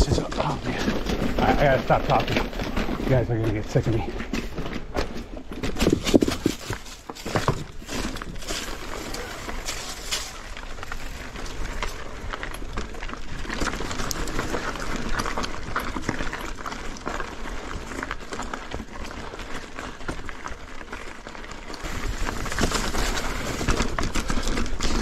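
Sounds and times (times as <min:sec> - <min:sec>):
bike clicks and rattles: 0:00.0 - 0:25.0
tyres crunching over stone: 0:00.0 - 0:25.0.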